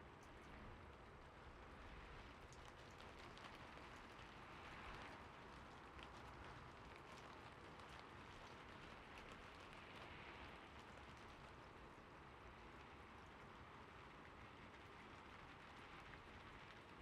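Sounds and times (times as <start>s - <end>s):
gentle rain hiss: 0.0s - 17.0s.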